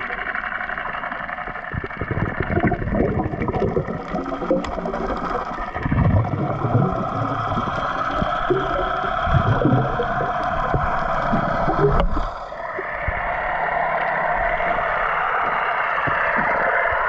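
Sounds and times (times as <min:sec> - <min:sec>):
boat engine droning underwater: 0:00.0 - 0:17.0
low gurgles and knocks: 0:00.0 - 0:17.0.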